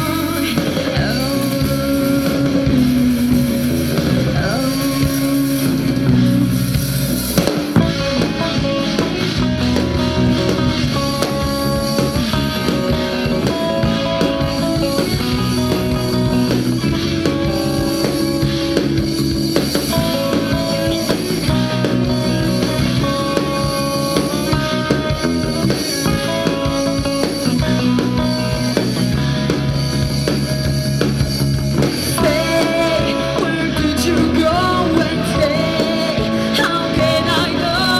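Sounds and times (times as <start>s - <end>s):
band playing guitar and drums: 0.0s - 37.9s.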